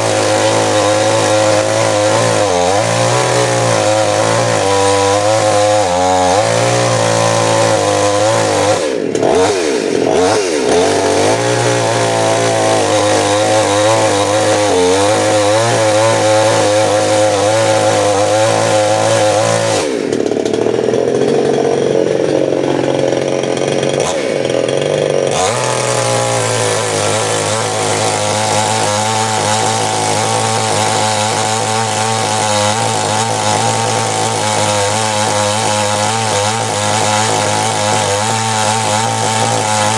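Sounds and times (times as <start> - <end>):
chainsaw engine running hard: 0.0 - 39.9.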